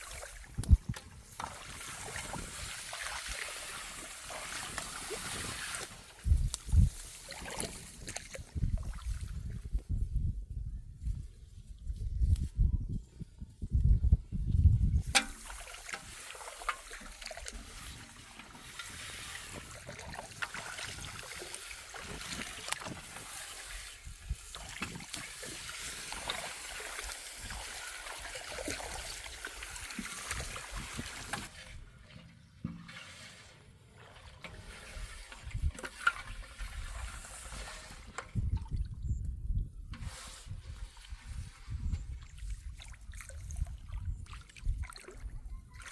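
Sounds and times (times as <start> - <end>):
water trickling and splashing: 0.0 - 9.9, 14.6 - 45.9.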